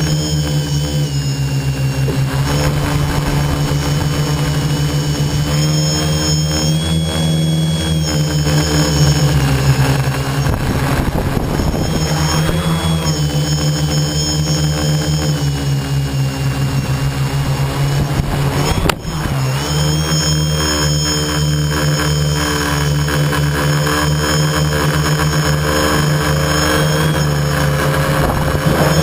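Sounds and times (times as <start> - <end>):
electric motors and propellers whining: 0.0 - 29.0.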